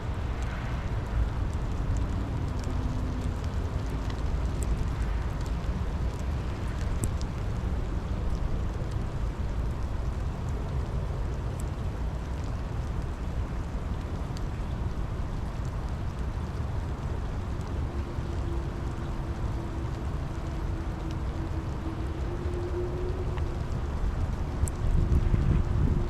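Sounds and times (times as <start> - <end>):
rain drop ticks: 0.0 - 26.0
steady rain: 0.0 - 26.0.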